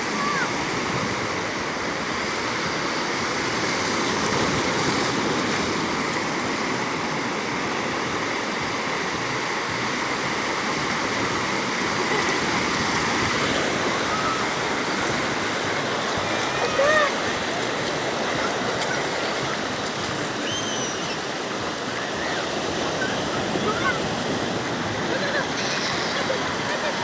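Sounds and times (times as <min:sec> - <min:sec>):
ocean surf washing onto beach: 0:00.0 - 0:27.0.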